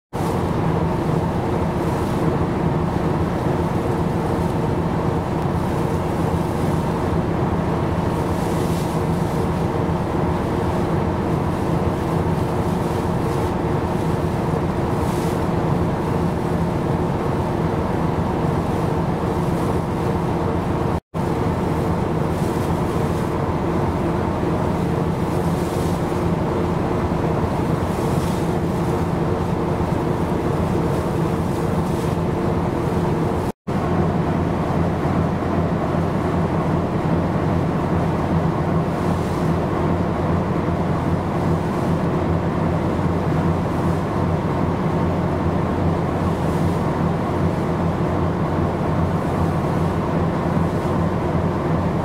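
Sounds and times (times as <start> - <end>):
sea noise: 0.1 - 52.0
steady engine drone: 0.1 - 52.0
wind: 0.1 - 52.0.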